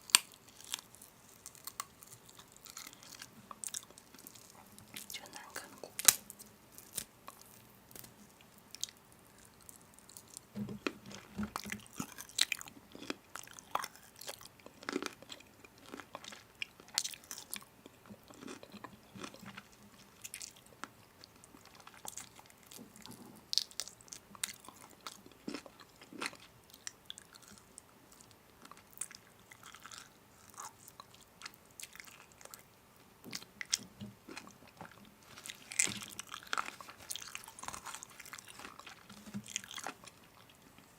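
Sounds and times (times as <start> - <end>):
person chewing crunchy food: 0.0 - 32.7, 33.3 - 40.9.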